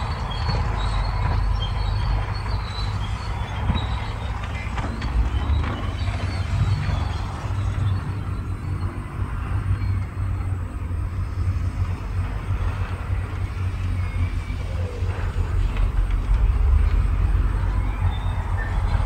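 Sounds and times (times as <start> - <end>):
diesel engine low rumble: 0.0 - 19.0.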